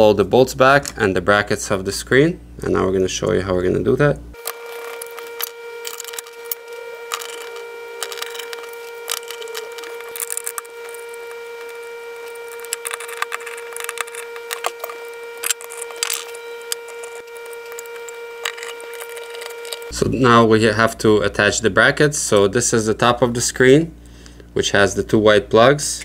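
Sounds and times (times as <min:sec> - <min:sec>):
steady high-pitched hum: 0:00.0 - 0:26.0.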